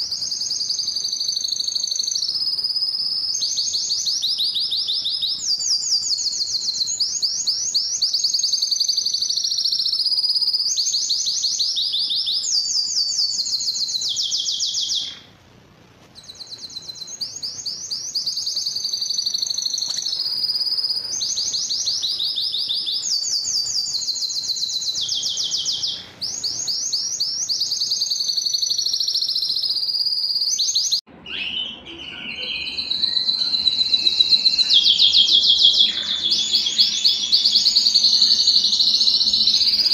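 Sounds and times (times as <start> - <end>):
canary singing trills: 0.0 - 15.4, 16.2 - 39.9
lower-pitched bird song: 0.0 - 15.4, 16.2 - 39.9.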